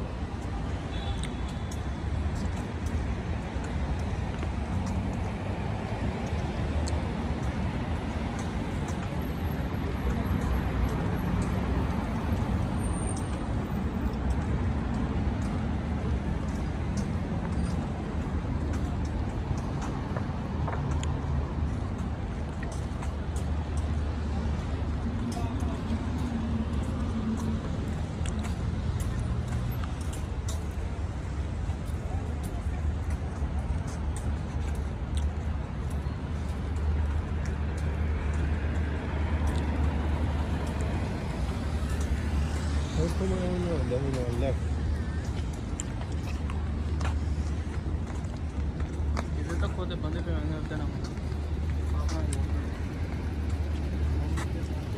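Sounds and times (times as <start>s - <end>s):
road traffic rumble: 0.0s - 54.9s.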